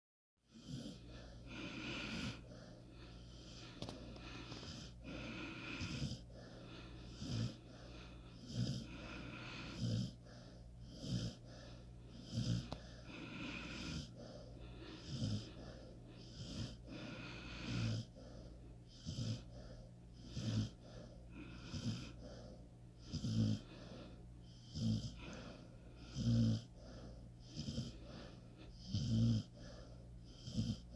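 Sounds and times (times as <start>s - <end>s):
dog snoring wheezily: 0.5s - 30.9s.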